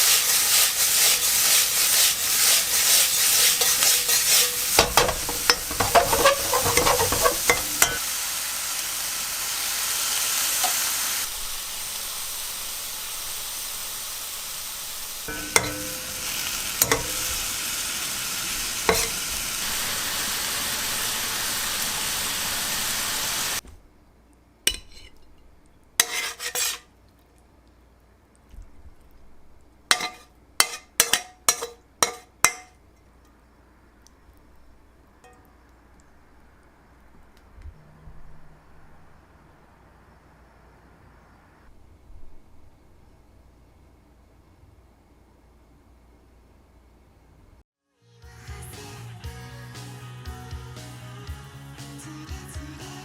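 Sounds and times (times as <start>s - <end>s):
steady hissing noise: 0.0s - 47.6s.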